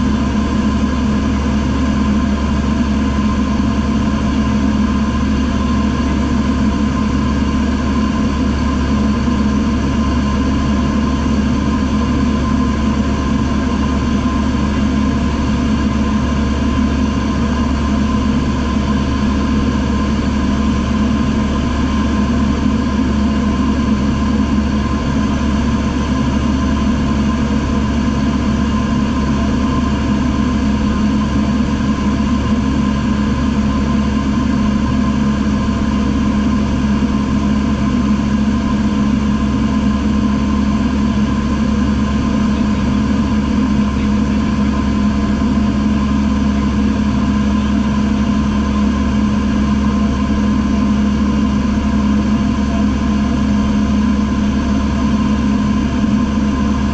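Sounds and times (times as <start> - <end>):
light aircraft engine and propeller: 0.0 - 56.9.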